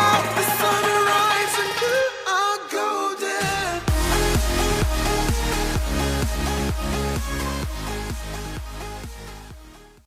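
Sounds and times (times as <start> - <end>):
pop song: 0.0 - 10.0.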